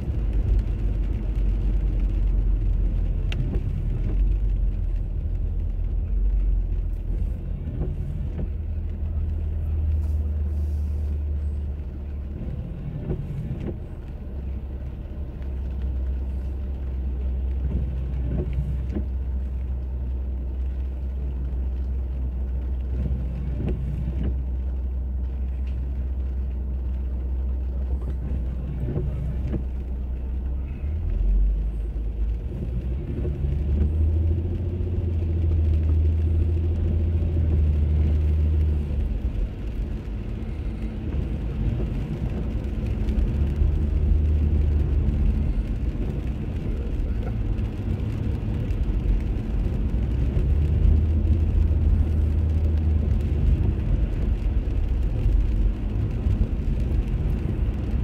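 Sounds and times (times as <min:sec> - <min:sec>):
car engine and road drone: 0:00.0 - 0:58.0
tyres on wet pavement: 0:00.0 - 0:58.0.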